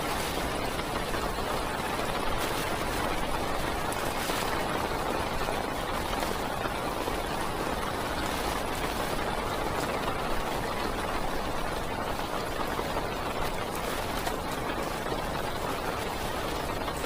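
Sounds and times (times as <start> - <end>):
heavy rain on car roof: 0.0 - 17.0.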